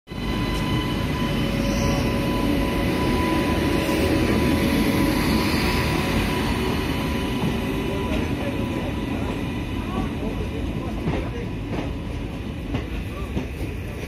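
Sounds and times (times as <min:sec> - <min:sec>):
train rumbling past: 0:00.1 - 0:14.0.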